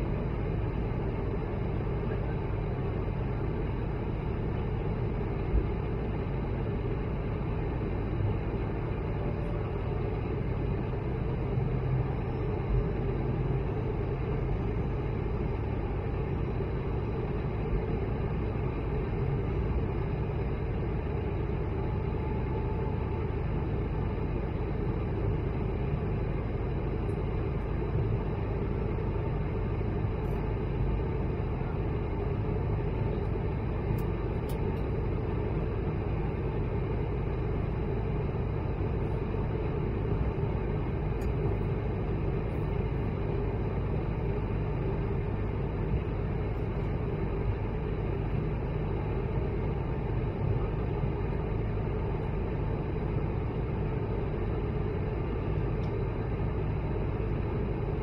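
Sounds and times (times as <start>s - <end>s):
aircraft cabin engine drone: 0.0s - 58.0s.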